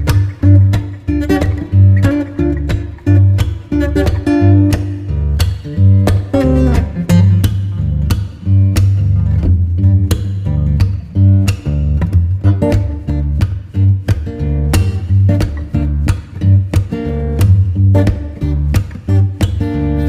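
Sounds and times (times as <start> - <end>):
plucked acoustic guitar music: 0.0 - 20.0.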